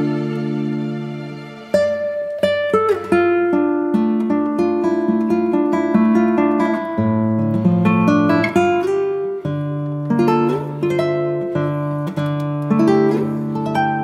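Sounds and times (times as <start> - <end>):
guitar picking a melody: 0.0 - 14.0.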